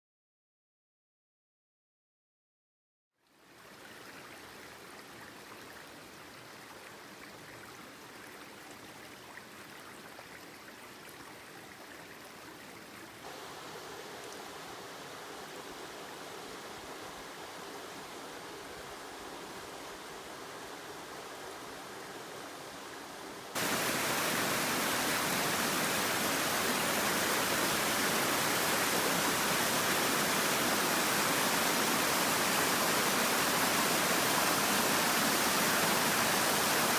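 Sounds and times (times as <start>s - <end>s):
rushing flowing water: 3.4s - 36.9s.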